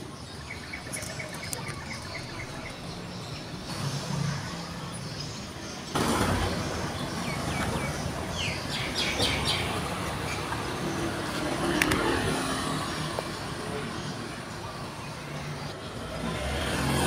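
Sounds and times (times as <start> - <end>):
birds chirping: 0.0 - 17.0
rushing outdoor background noise: 0.0 - 17.0.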